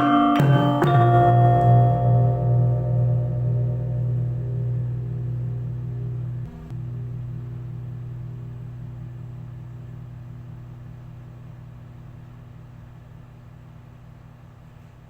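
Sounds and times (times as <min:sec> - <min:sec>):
large gong ringing: 0:00.0 - 0:12.7.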